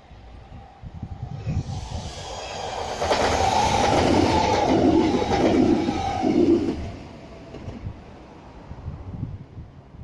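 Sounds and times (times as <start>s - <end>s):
train whine: 0.0s - 9.2s
train wheels on rails: 0.6s - 9.1s.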